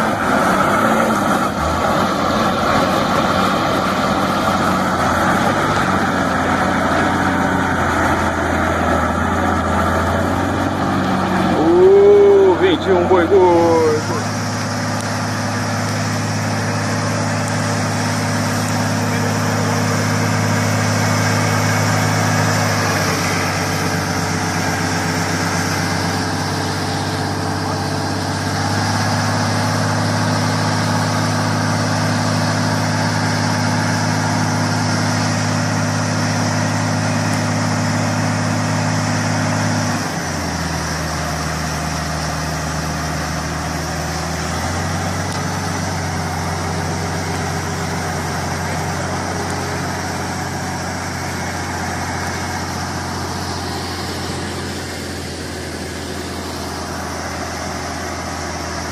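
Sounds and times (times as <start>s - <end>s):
vehicle engine running: 0.0s - 58.9s.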